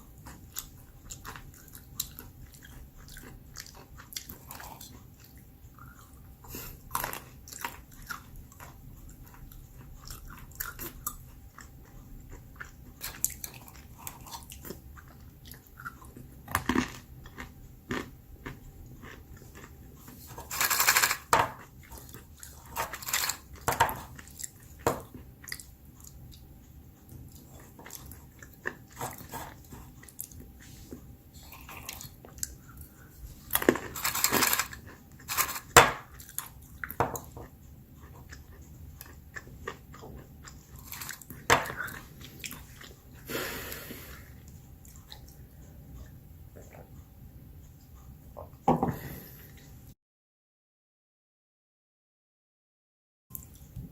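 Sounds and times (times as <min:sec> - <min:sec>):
person chewing crunchy almonds: 0:00.0 - 0:43.3, 0:44.1 - 0:47.0.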